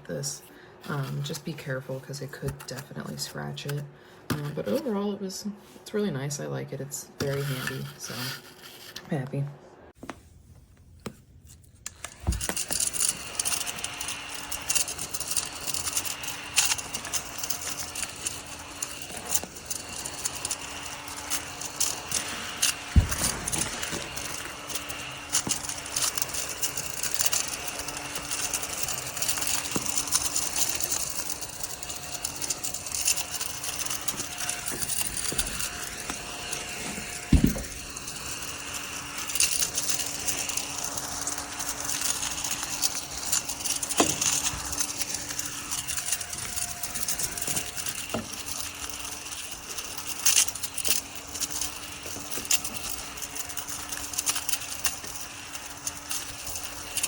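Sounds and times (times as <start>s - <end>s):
small vacuum cleaner humming: 0.0s - 5.8s, 6.4s - 57.0s.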